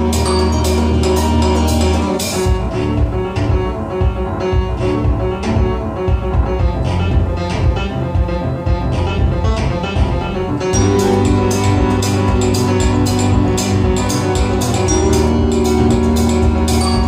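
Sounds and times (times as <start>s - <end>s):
music over loudspeakers: 0.0s - 17.0s.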